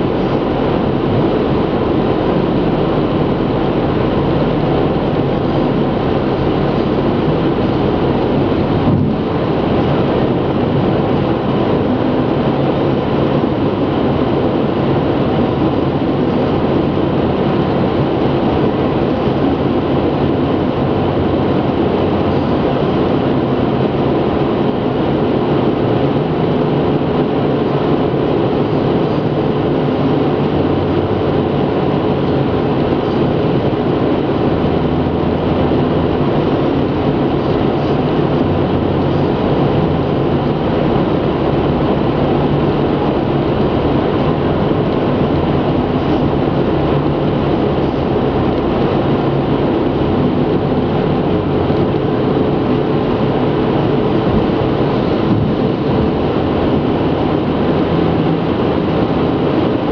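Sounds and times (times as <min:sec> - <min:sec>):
low engine drone: 0:00.0 - 0:59.9
tyre and wind noise: 0:00.0 - 0:59.9.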